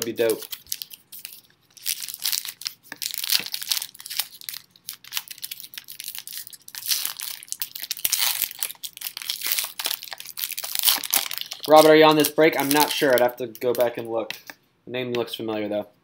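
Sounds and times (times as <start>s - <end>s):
foil wrapper crinkling and tearing: 0.0s - 14.0s.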